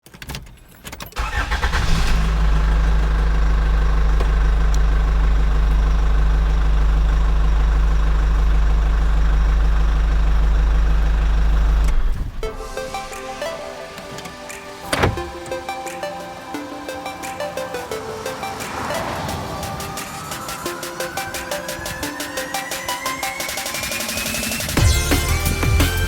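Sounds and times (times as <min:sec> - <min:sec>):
engine cranking and idling: 0:00.4 - 0:26.0.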